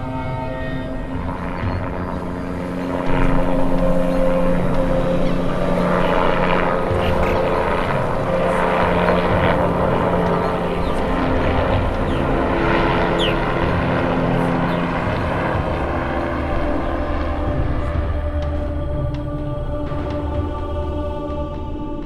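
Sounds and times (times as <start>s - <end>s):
helicopter flying overhead: 0.0s - 22.0s.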